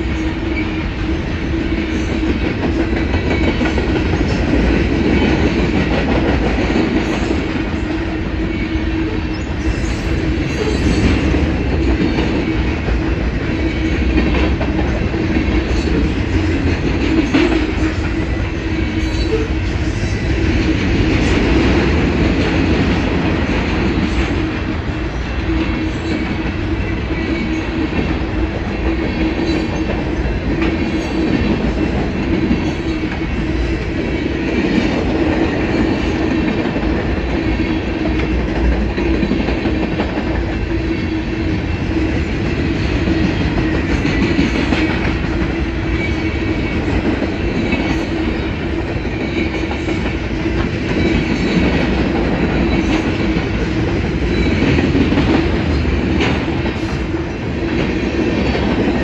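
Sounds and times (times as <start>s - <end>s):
continuous train rumble: 0.0s - 59.0s
train wheels clattering over rail joints: 9.3s - 59.0s.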